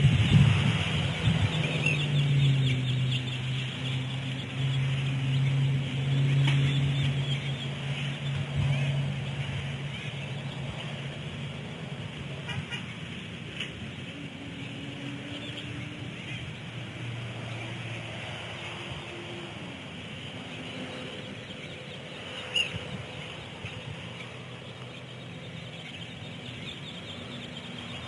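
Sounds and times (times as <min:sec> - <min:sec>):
vehicle engine hum: 0:00.0 - 0:28.0.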